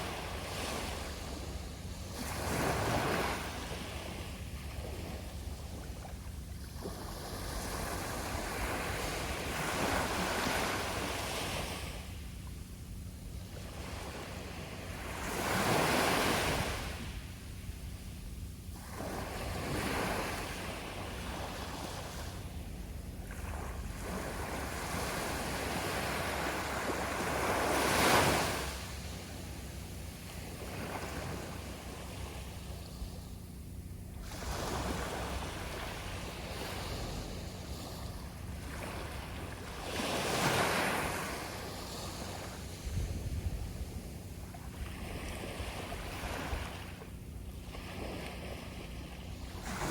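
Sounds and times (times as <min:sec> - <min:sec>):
sea waves breaking: 0:00.0 - 0:12.5, 0:13.4 - 0:17.6, 0:18.6 - 0:49.9
wind rumble on microphone: 0:00.0 - 0:49.9.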